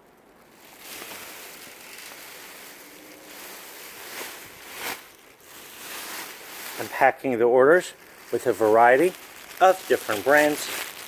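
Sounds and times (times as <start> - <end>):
fabric rustling: 0.3 - 11.0.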